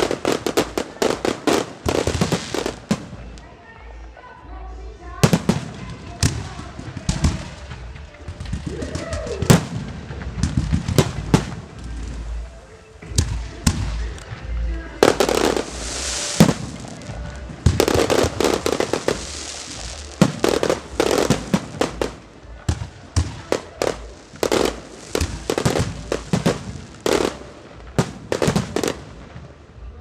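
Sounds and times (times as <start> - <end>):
fireworks bursting with sharp bangs: 0.0 - 4.2, 5.0 - 30.0
crackling hiss of fireworks: 0.0 - 30.0.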